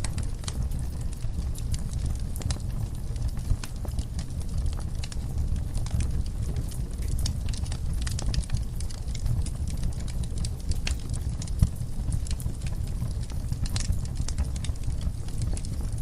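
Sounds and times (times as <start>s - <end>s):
logs crackling: 0.0s - 15.7s
fire rumbling: 0.0s - 16.0s.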